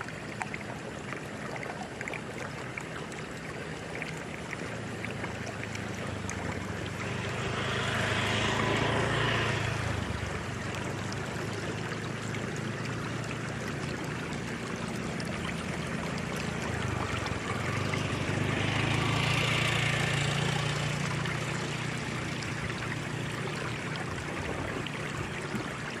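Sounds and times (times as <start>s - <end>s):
water rushing: 0.0s - 26.0s.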